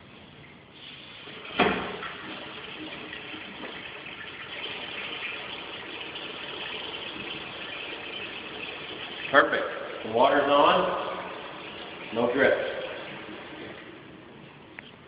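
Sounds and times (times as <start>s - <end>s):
faucet water running into sink: 0.8s - 14.1s.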